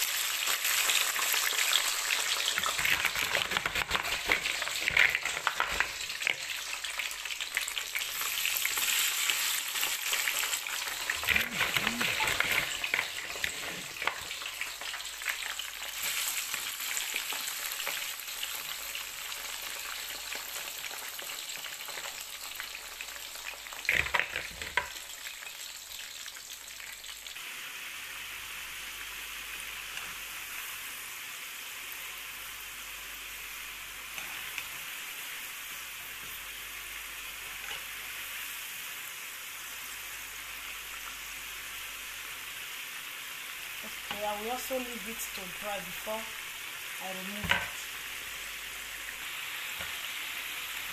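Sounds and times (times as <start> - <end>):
fries sizzling in hot oil: 0.0 - 50.9.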